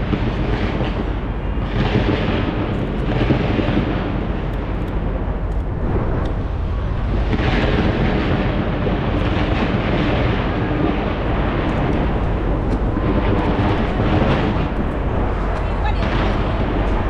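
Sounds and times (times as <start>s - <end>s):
faint firework crackling: 0.0s - 17.0s
firework shell bursts rumbling: 0.0s - 17.0s.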